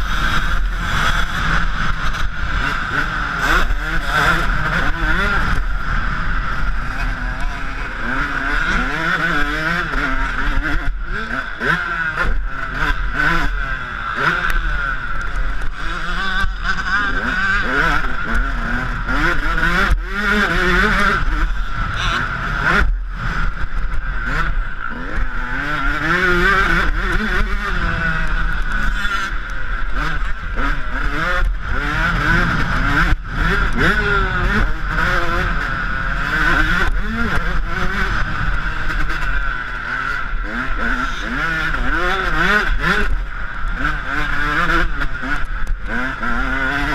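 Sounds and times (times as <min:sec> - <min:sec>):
motorbike engine revving: 0:00.0 - 0:46.9.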